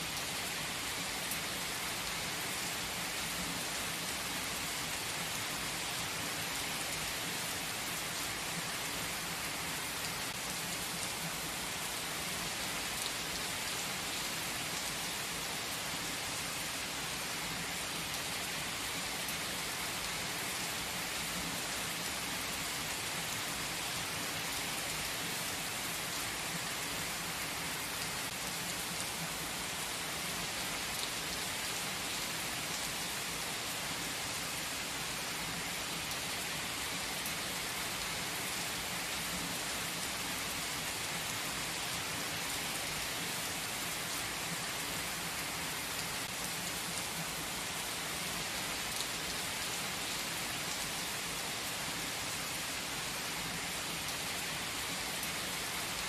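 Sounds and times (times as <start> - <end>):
heavy rain on asphalt and cars: 0.0 - 56.0.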